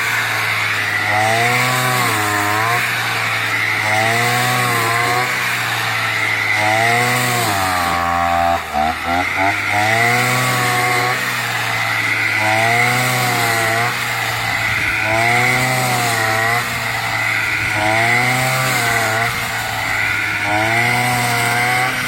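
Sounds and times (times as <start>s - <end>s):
brush cutter engine cutting: 0.0s - 22.0s.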